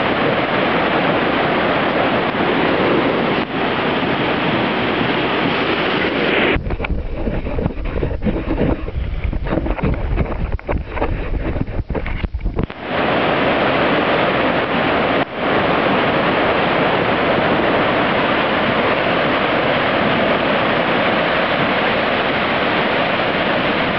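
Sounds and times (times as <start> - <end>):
river rushing in flood: 0.0 - 23.9
wind buffeting microphone: 0.0 - 23.9.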